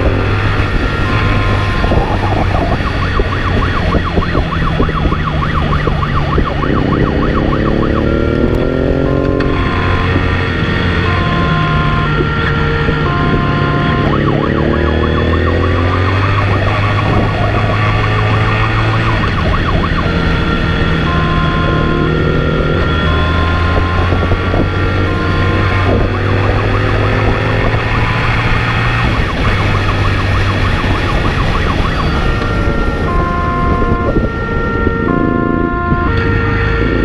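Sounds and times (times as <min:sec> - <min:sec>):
motorcycle engine accelerating: 0:00.0 - 0:37.0
police siren wailing and yelping: 0:00.0 - 0:37.0.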